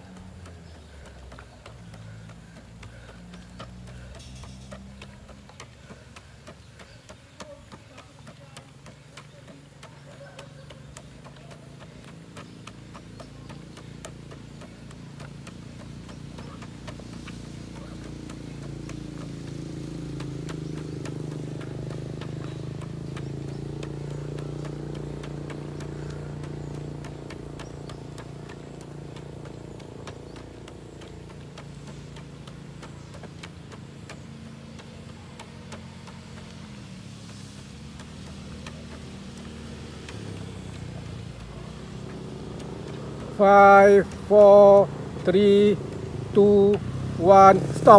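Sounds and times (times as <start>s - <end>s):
light clicks and taps: 0.0s - 47.9s
passing vehicle engine hum: 0.0s - 47.9s.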